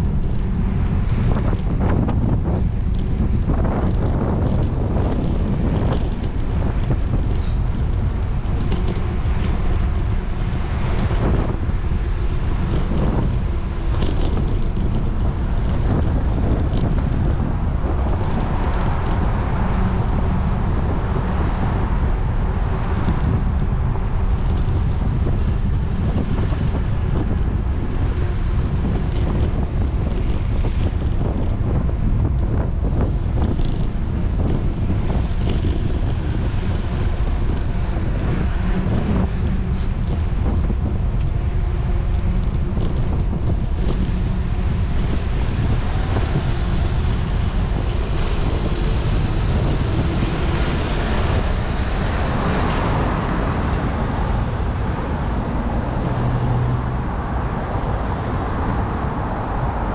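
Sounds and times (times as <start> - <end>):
faint road traffic: 0.0 - 59.9
wind rushing over microphone: 0.0 - 59.9.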